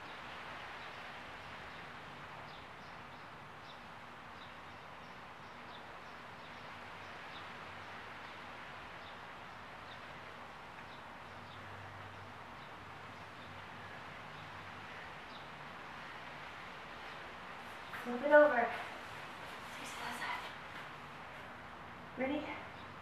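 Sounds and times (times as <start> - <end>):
faint background hiss: 0.0 - 23.0.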